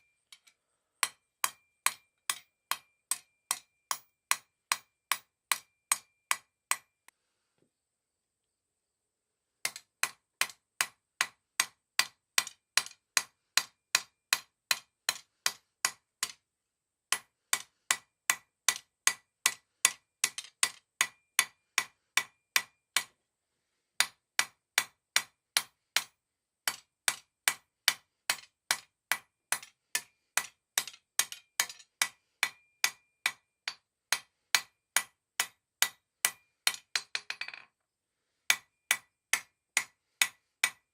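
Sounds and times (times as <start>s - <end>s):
hammer striking steel on anvil: 0.0s - 7.0s, 9.7s - 16.4s, 17.1s - 23.2s, 24.0s - 37.6s, 38.5s - 40.9s.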